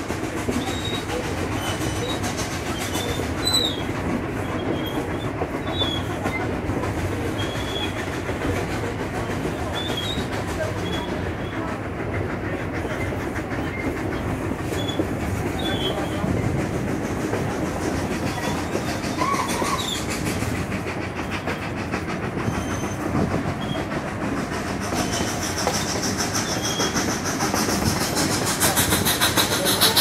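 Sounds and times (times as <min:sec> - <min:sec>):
train wheels clickety-clack on rails: 0:00.0 - 0:30.0.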